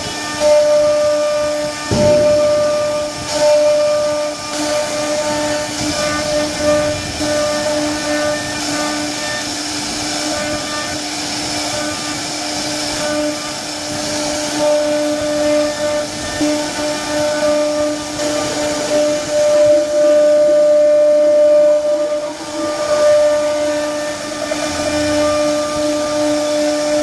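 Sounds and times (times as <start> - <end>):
hiss of wood cutting: 0.0 - 27.0
router spindle whining: 0.0 - 27.0.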